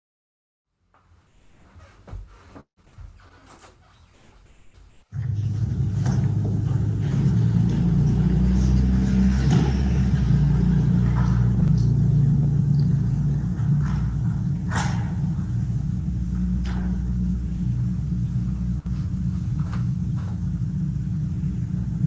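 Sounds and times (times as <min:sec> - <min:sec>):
low room rumble: 0:02.4 - 0:22.0.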